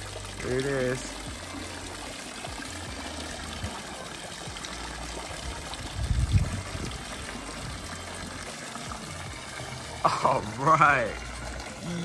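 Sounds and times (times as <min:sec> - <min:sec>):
water trickling and pouring: 0:00.0 - 0:12.0.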